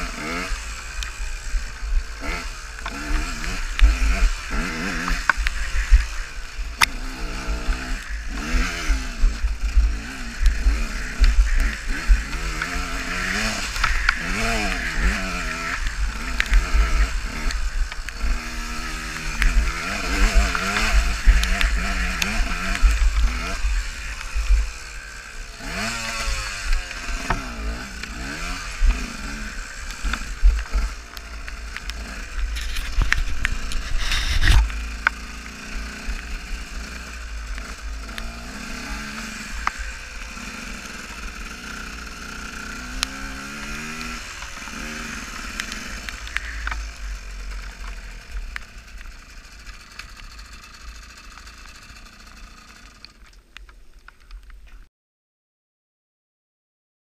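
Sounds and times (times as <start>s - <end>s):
motorcycle engine revving: 0.0s - 53.5s
knocks and rattles from bike: 0.0s - 54.9s.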